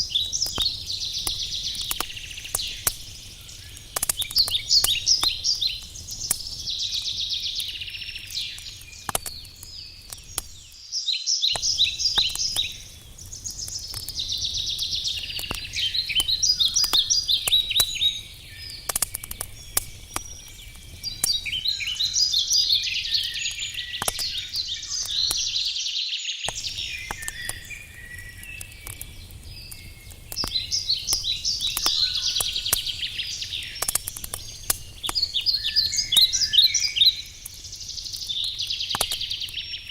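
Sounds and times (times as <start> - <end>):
campfire crackling and popping: 0.0 - 25.8, 26.4 - 39.9
songbirds singing: 0.0 - 39.9.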